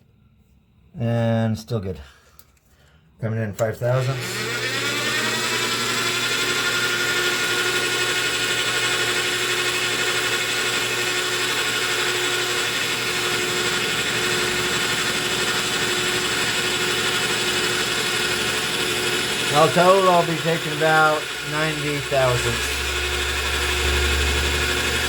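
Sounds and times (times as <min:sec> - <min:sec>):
lathe running with whine: 0:04.0 - 0:25.0.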